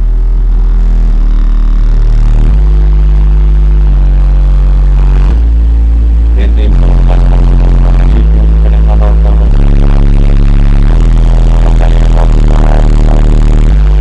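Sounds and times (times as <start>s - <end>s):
bass-heavy music from car: 0.0s - 14.0s.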